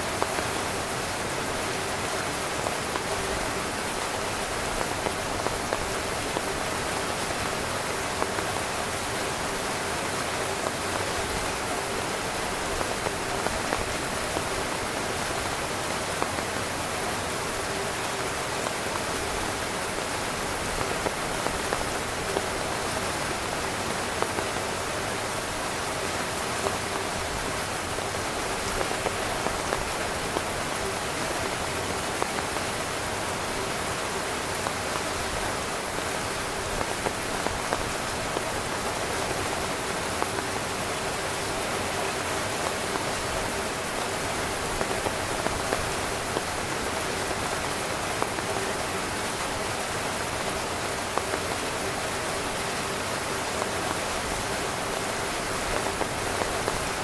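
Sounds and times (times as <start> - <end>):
rain on tent fabric: 0.0 - 57.0.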